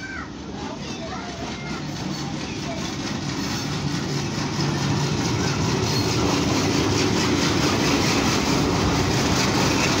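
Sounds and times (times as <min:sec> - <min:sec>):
diesel locomotive engine hum: 0:00.0 - 0:10.0
train coaches rolling on rails: 0:00.0 - 0:10.0.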